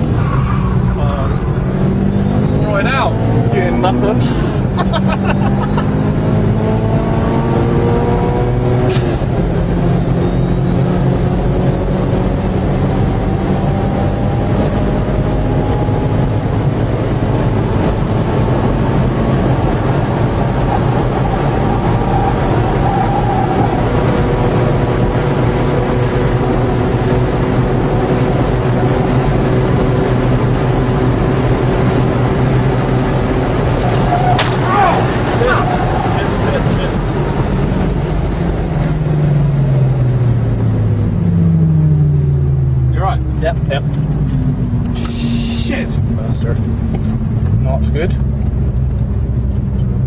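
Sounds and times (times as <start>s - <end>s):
car engine revving high: 0.0s - 49.7s
road and wind noise: 0.0s - 50.0s.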